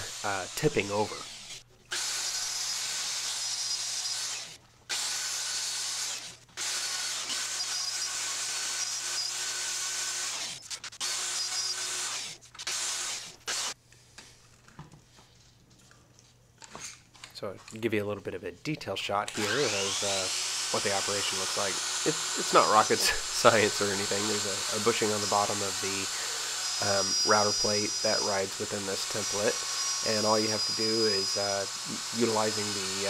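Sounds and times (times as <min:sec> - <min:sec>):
router whine cutting wood: 0:00.0 - 0:13.8, 0:19.3 - 0:33.0.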